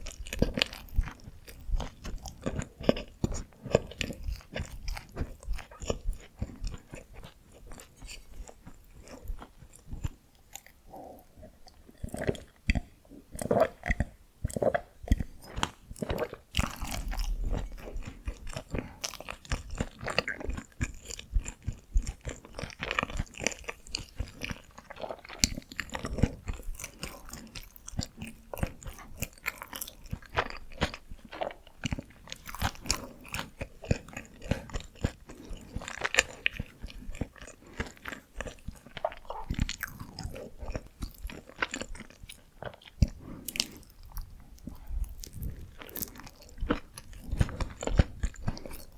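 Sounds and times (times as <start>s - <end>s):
close chewing and biting: 0.0s - 48.9s.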